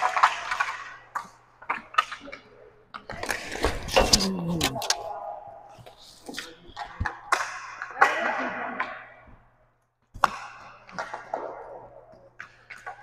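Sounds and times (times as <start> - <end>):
hockey sticks cracking and clacking: 0.0 - 5.0, 6.2 - 9.1, 10.1 - 13.0.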